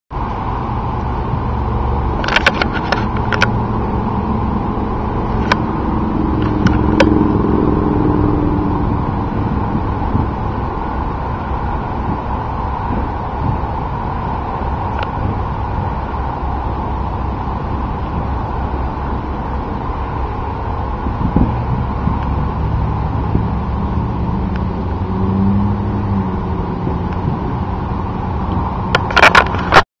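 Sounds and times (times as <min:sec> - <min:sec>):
steady hum: 0:00.1 - 0:29.8
road traffic rumble: 0:00.1 - 0:29.9.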